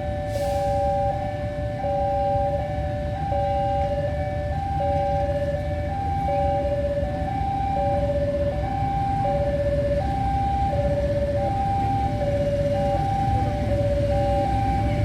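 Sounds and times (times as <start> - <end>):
two-tone warning siren: 0.0 - 15.0.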